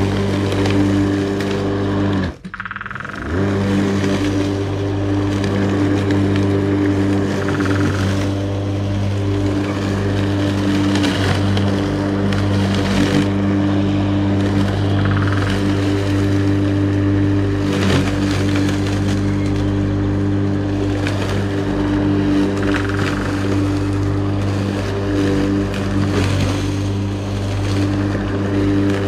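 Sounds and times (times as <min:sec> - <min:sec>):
low machine hum: 0:02.3 - 0:29.0.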